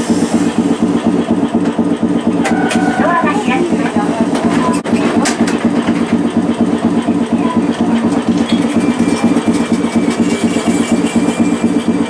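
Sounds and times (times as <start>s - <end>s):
tram air compressor chugging: 0.0s - 12.0s.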